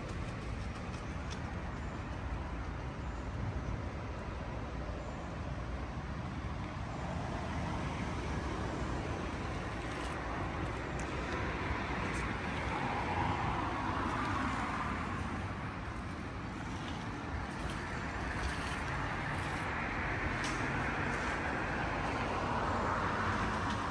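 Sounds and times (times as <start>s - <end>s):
distant road traffic hum: 0.0s - 23.9s.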